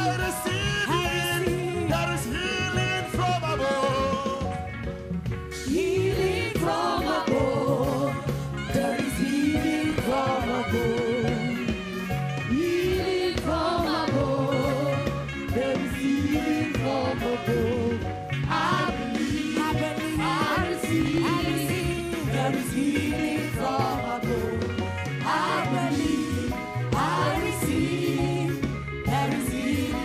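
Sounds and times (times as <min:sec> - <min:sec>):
voices singing gospel song: 0:00.0 - 0:04.6, 0:05.5 - 0:30.0
band with steady bass line: 0:00.0 - 0:30.0.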